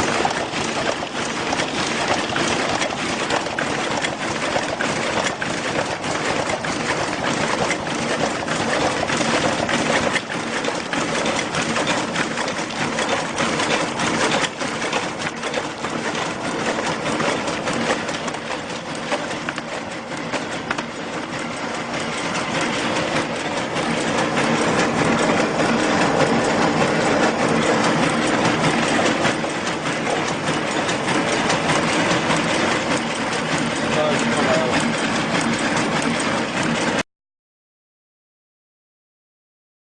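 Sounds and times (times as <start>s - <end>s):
machine rapid mechanical clatter: 0.0s - 37.0s
machine steady hum: 0.0s - 37.0s.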